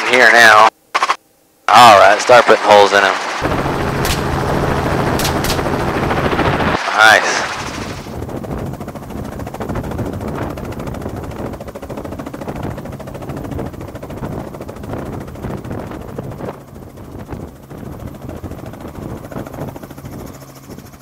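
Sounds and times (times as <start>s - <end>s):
helicopter engine drone: 1.8s - 21.0s
helicopter rotor chop: 1.8s - 21.0s.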